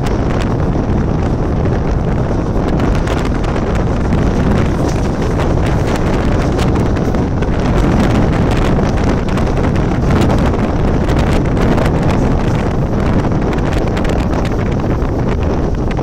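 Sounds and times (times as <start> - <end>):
train running on track: 0.0 - 16.0
wind buffeting microphone: 0.0 - 16.0.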